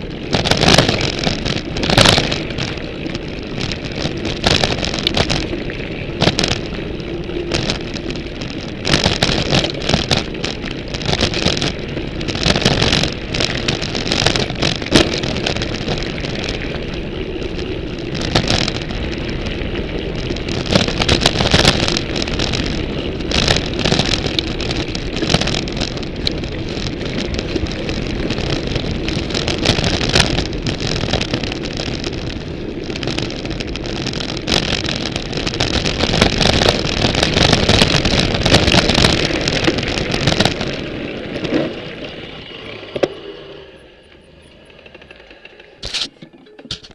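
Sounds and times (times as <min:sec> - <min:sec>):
bike clicks and rattles: 0:00.0 - 0:46.9
tyre and wind noise: 0:00.0 - 0:46.9.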